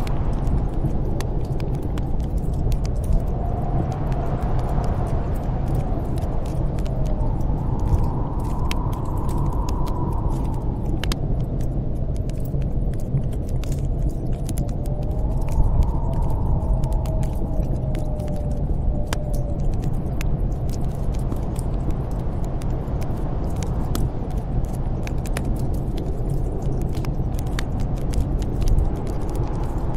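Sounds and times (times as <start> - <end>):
wind whistling with deep rumble: 0.0 - 29.9
wood fire crackling and popping: 0.0 - 29.9.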